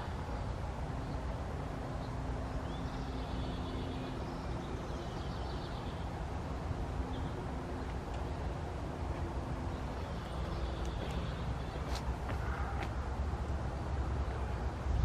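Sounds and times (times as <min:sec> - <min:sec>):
faint engine hum: 0:00.0 - 0:15.0
low outdoor traffic rumble: 0:00.0 - 0:15.0.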